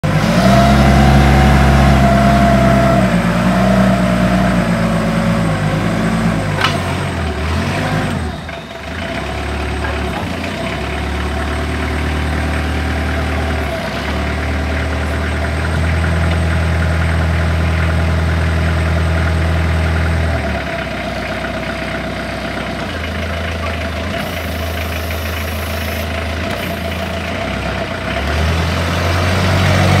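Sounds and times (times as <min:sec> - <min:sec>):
forklift diesel engine running: 0:00.0 - 0:30.0.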